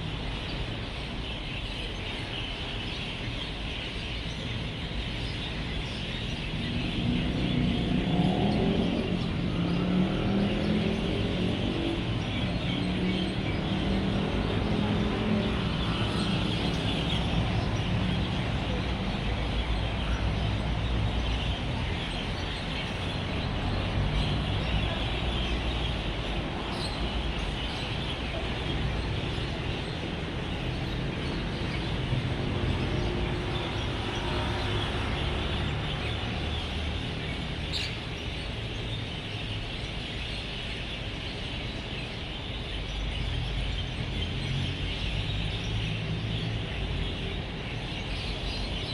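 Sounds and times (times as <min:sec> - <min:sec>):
flock of birds chirping: 0:00.0 - 0:48.9
road traffic rumble: 0:00.0 - 0:48.9.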